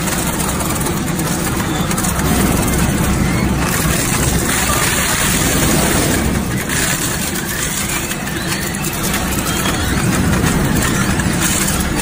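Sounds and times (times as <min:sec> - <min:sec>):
low hum: 0:00.0 - 0:12.0
shredder grinding plastic: 0:00.0 - 0:12.0.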